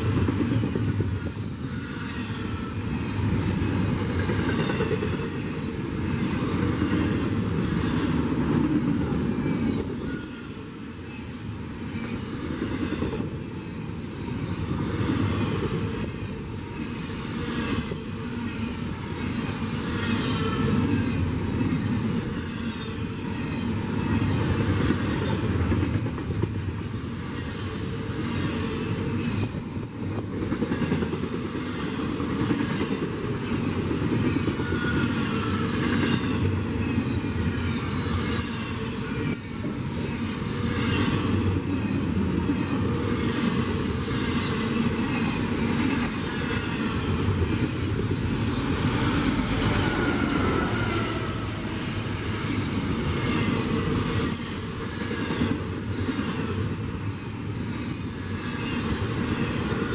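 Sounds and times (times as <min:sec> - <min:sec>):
train wheels rumbling and clacking: 0:00.0 - 0:59.9.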